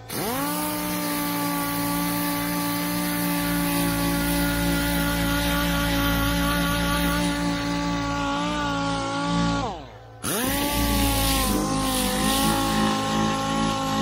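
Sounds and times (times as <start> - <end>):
orbital sander whining: 0.0 - 14.0.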